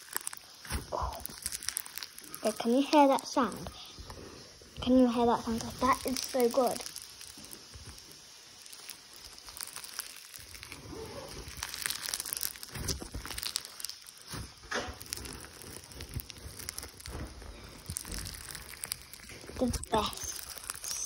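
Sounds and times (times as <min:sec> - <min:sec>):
slime crackling and popping: 0:00.0 - 0:21.0.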